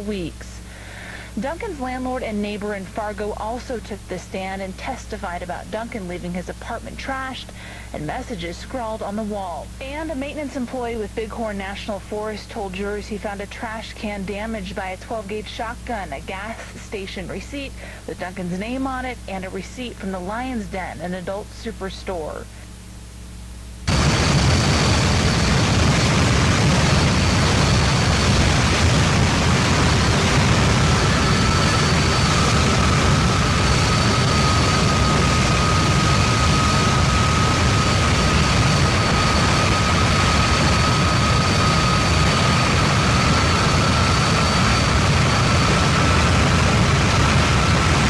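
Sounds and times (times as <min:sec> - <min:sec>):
rumbling static noise: 0:00.0 - 0:48.0
faint high whines: 0:07.4 - 0:48.0.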